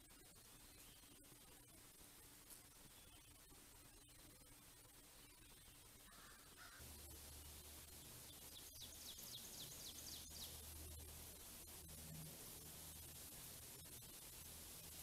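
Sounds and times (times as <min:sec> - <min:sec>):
faint birdsong: 0:00.0 - 0:01.8, 0:02.4 - 0:15.0
low steady hum: 0:00.0 - 0:15.0.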